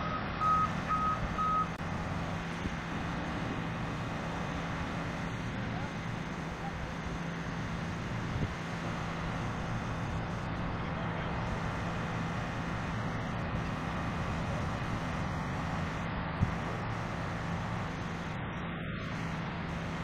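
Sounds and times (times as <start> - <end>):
diesel engines idling: 0.0 - 20.0.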